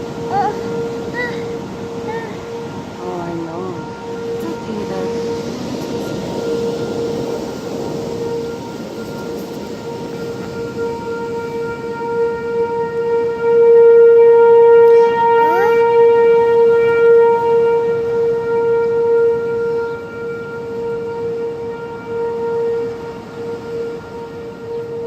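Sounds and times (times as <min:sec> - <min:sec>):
rising siren sweep: 0:00.0 - 0:25.0
siren steady tone: 0:00.0 - 0:25.0.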